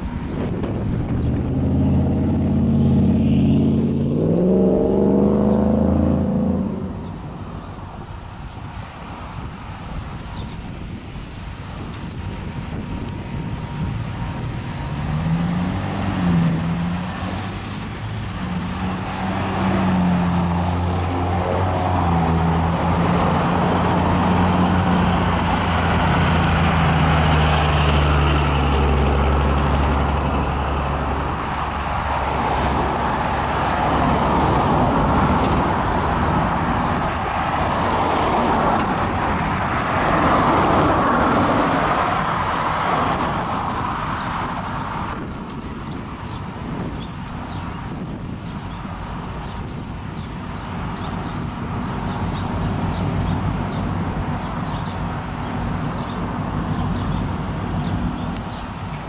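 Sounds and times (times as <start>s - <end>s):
vehicle engine pulling away: 0.0s - 7.4s, 11.6s - 59.0s
cars passing: 0.0s - 59.0s.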